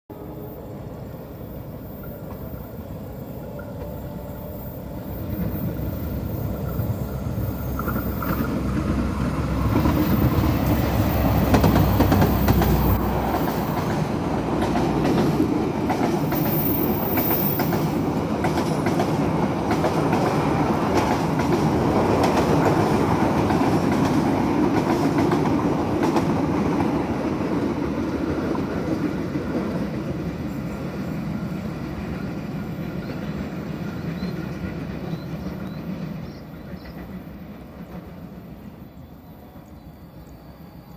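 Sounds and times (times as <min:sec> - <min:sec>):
deep locomotive rumble: 0:00.1 - 0:40.8
carriages clattering over rails: 0:01.9 - 0:38.8.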